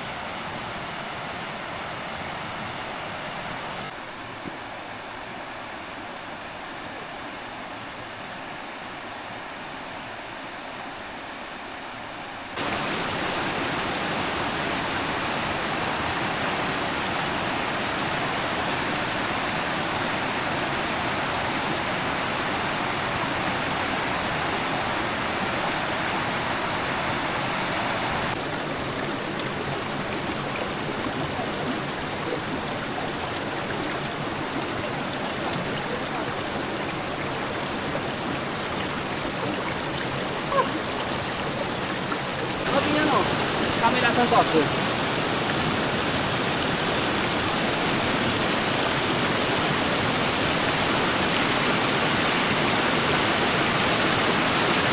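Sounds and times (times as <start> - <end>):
stream rushing over boulders: 0.0 - 54.9.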